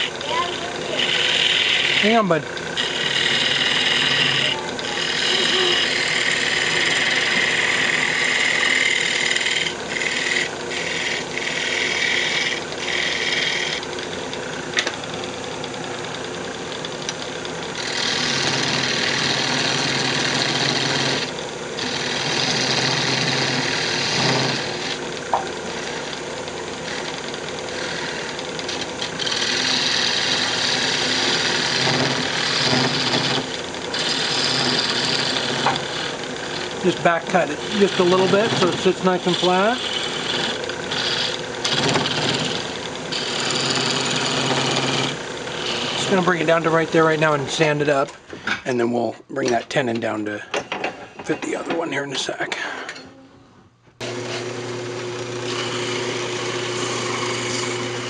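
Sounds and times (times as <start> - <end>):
wood lathe humming: 0.0 - 49.1, 54.0 - 58.0
turning tool cutting wood: 0.0 - 50.3, 54.0 - 58.0.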